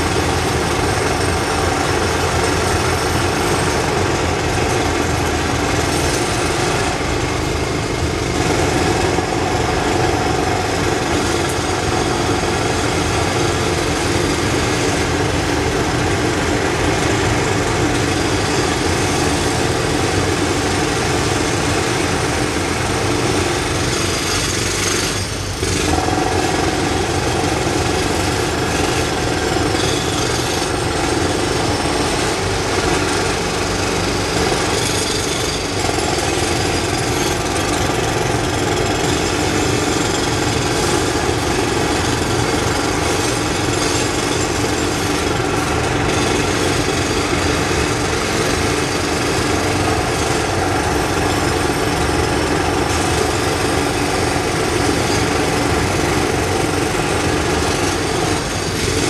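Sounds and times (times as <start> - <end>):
jackhammers hammering concrete: 0.0 - 59.0.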